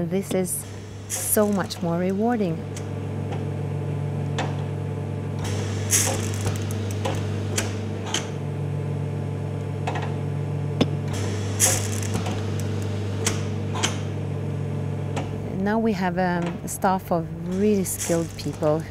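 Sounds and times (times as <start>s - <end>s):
steady electric hum: 0.0s - 18.9s.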